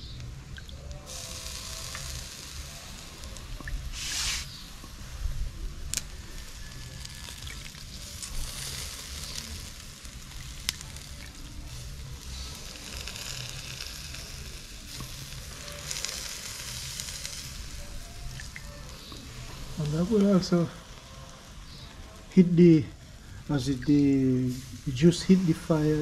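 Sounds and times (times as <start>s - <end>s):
meat sizzling on a grill: 0.1s - 26.0s.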